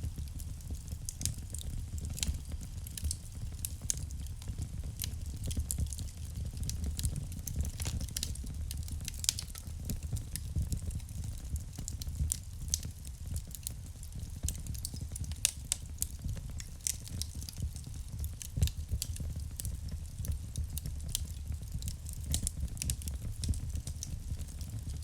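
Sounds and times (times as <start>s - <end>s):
burning wood crackling and popping: 0.0s - 25.0s
low rumble of flames: 0.0s - 25.0s.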